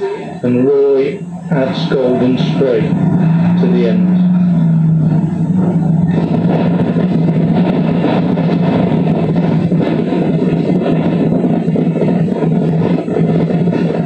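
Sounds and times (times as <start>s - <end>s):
boat engine droning: 0.0s - 14.0s
rushing haze: 0.0s - 14.0s.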